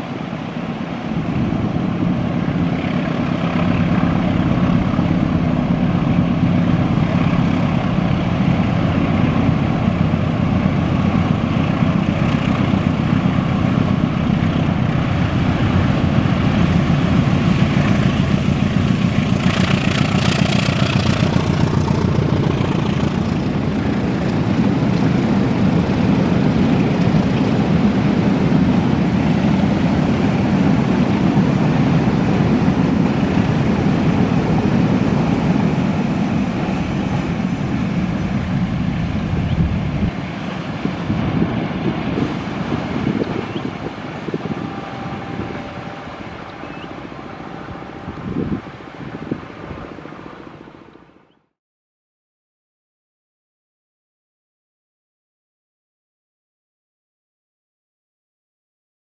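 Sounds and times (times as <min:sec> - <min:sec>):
diesel locomotive engine running: 0:00.0 - 0:51.4.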